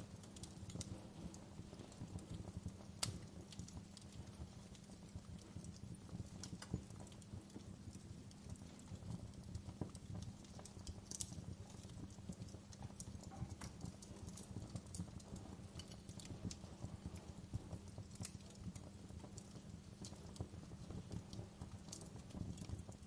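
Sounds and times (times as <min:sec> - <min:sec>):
burning logs crackling: 0:00.0 - 0:23.0
fire flames rumbling: 0:00.0 - 0:23.0.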